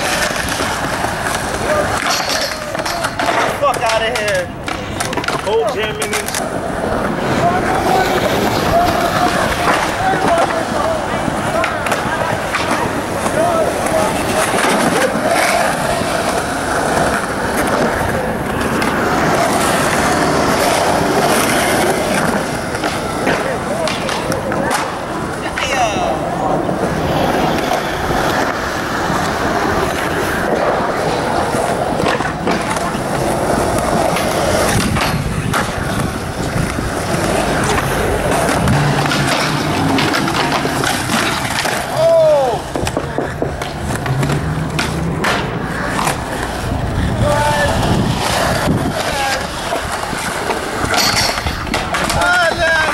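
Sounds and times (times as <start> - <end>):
skateboard clacking on ground: 0.0 - 52.9
skateboard wheels rolling on concrete: 0.0 - 52.9.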